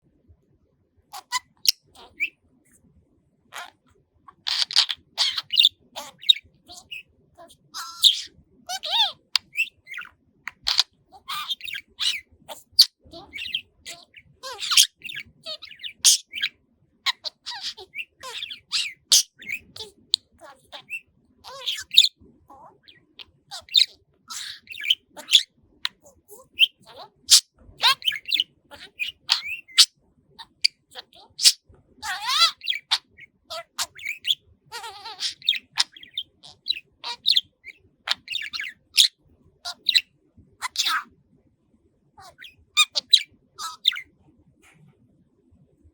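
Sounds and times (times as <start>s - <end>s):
budgerigar chattering: 1.1s - 2.3s, 3.6s - 16.5s, 17.1s - 41.1s, 42.2s - 44.0s.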